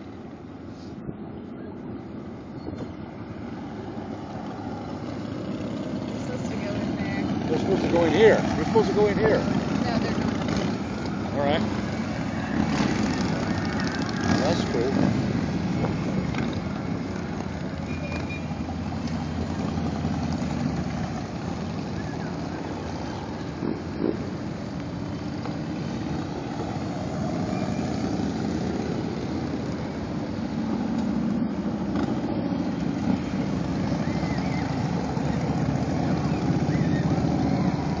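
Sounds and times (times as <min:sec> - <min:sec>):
vehicle engines rumbling: 0:00.0 - 0:38.0.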